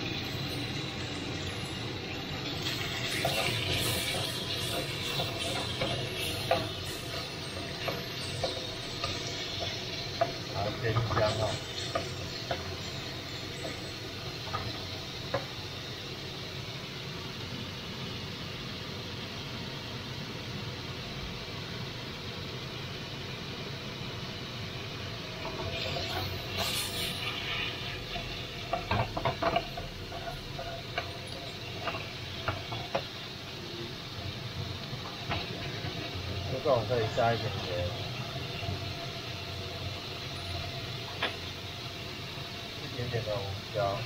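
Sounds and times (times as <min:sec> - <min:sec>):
chicken sizzling in frying pan: 0:00.0 - 0:16.6, 0:24.4 - 0:44.0.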